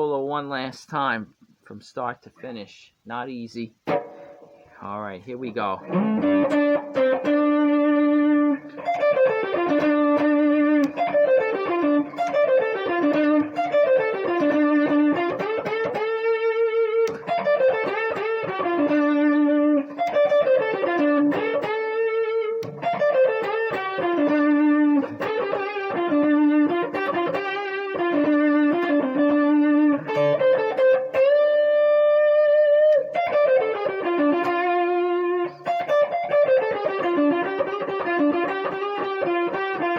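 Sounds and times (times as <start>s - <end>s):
electric guitar blues solo: 3.7s - 4.8s, 5.5s - 39.9s.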